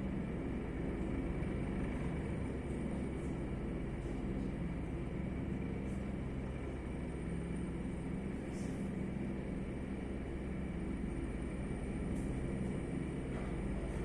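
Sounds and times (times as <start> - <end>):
helicopter rotor beating: 0.0 - 14.0.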